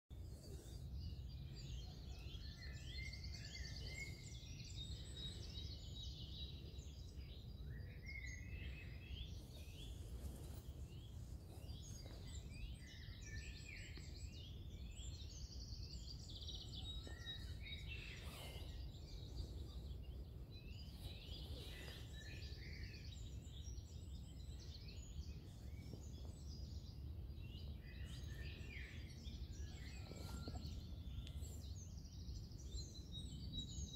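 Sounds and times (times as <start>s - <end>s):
songbirds singing: 0.1s - 33.9s.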